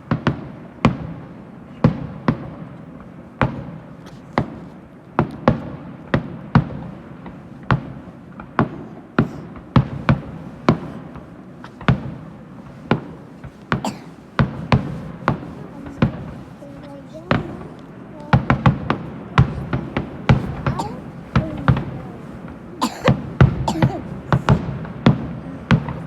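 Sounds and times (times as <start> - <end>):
fireworks bangs: 0.0 - 26.0
low rumble and crackle: 0.0 - 26.0.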